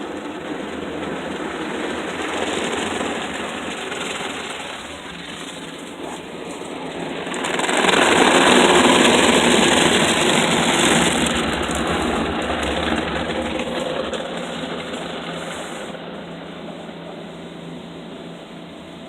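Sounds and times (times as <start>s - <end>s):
car wash machinery and spray: 0.0s - 19.0s.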